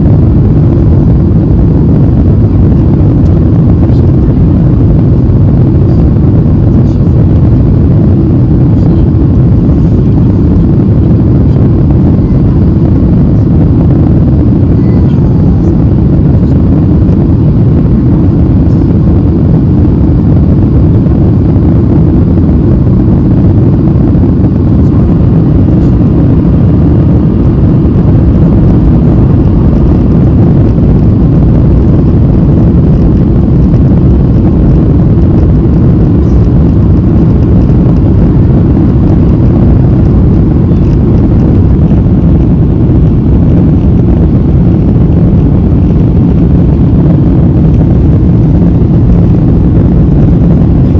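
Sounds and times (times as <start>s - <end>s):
jet engines rumbling: 0.0s - 50.9s.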